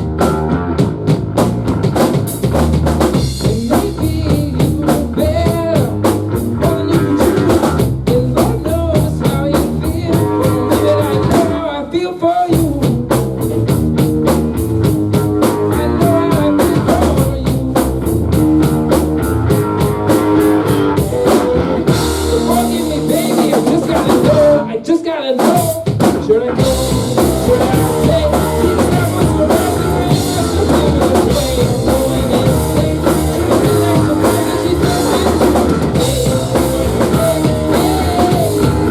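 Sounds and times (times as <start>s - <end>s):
drum breaks: 0.0s - 38.9s
rock band playing live: 0.0s - 38.9s.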